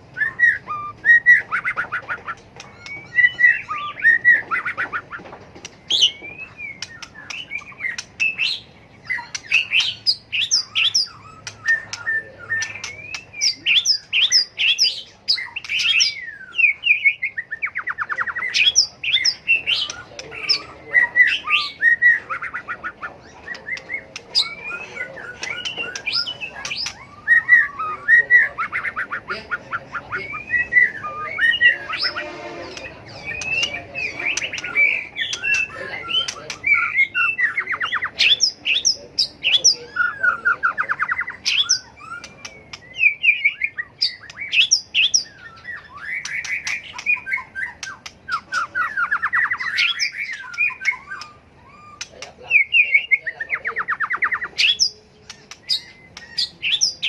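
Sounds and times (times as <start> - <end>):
bird singing whistled phrases: 0.1 - 5.1, 5.8 - 57.0.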